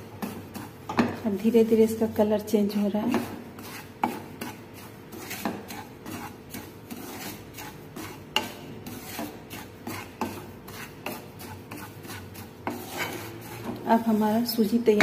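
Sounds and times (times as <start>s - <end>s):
wooden spoon scraping semolina in pan: 0.0s - 15.0s.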